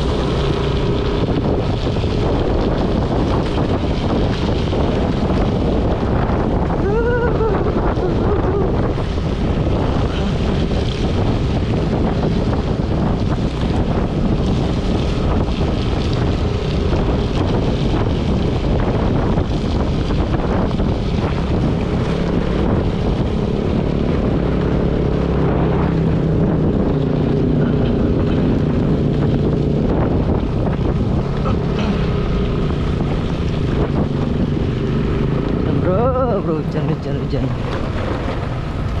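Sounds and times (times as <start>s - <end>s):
scooter engine running: 0.0s - 39.0s
wind buffeting microphone: 0.0s - 39.0s.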